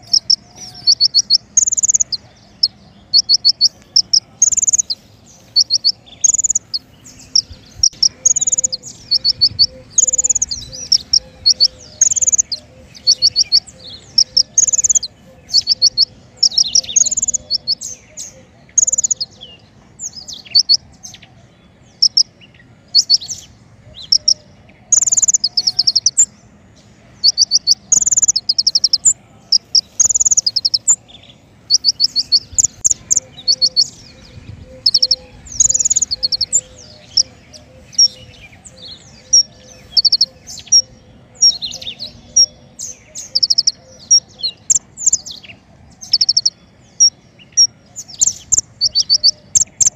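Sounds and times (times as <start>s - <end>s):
songbird high trilled song: 0.0s - 21.2s, 21.9s - 26.4s, 27.2s - 49.9s
bird chirps: 0.0s - 49.9s.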